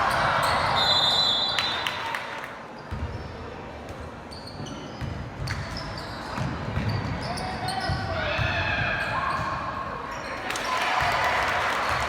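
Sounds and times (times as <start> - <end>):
murmur of spectators: 0.0 - 12.0.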